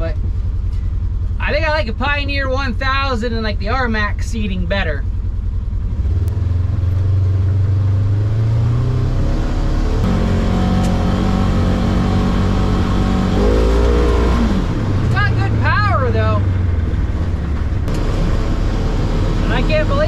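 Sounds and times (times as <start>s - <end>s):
twin-cylinder engine pulling: 0.0s - 20.0s.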